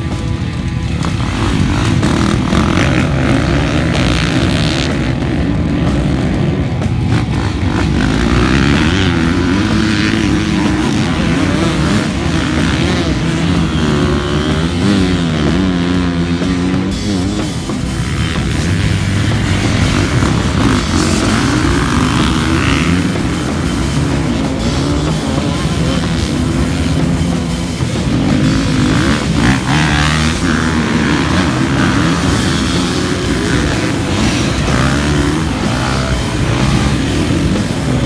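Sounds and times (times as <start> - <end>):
dirt bikes revving and accelerating: 0.0 - 38.0
rock music: 0.0 - 38.0.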